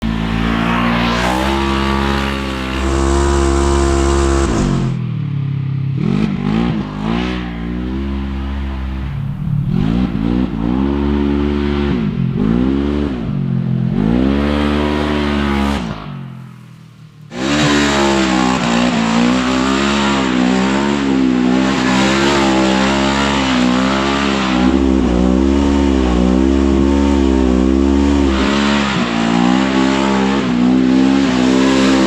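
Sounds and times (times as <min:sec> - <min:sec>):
engine revving: 0:00.0 - 0:05.0, 0:05.9 - 0:32.0.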